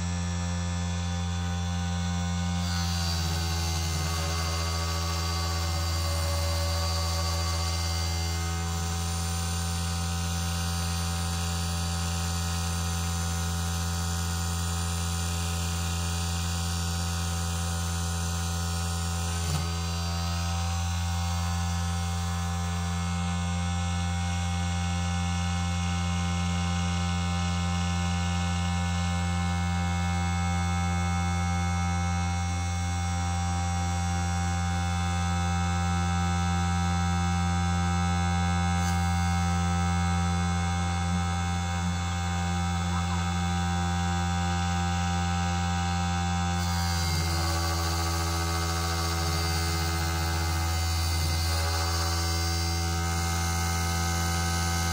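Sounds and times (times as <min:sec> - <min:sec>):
lathe motor humming and whining: 0:00.0 - 0:54.9.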